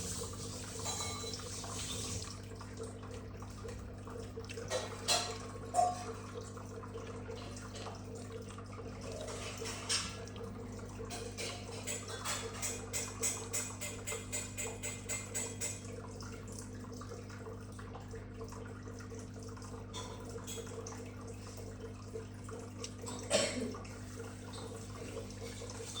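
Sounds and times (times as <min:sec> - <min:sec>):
water trickling and dripping: 0:00.0 - 0:26.0.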